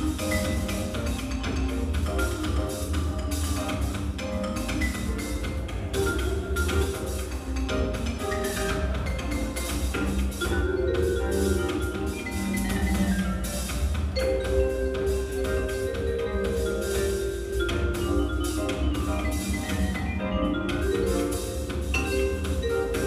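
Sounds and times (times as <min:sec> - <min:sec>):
electronic music: 0:00.0 - 0:23.0.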